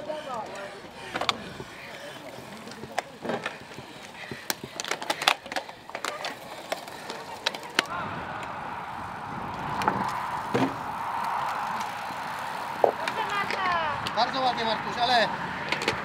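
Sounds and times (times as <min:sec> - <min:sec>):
bike rattling and clicking: 0:00.0 - 0:16.0.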